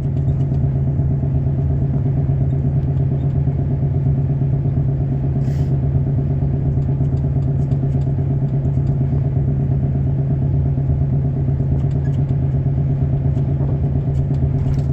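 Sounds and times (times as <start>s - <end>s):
engine running steadily: 0.0s - 14.9s.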